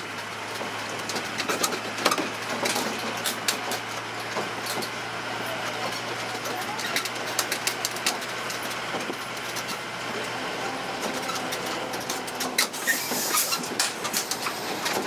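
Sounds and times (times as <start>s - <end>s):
carriages rattling: 0.0s - 15.0s
low engine hum: 0.0s - 15.0s.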